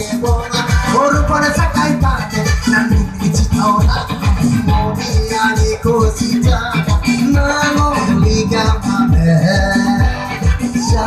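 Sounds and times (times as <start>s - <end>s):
electric guitars: 0.0s - 11.0s
keyboard: 0.0s - 11.0s
live band playing: 0.0s - 11.0s.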